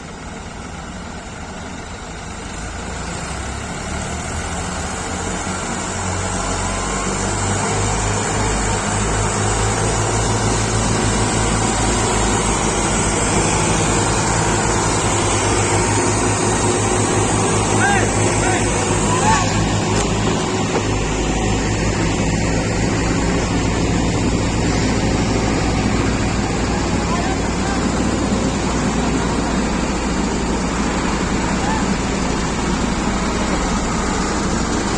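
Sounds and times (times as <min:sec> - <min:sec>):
heavy diesel engines running: 0:00.0 - 0:34.9.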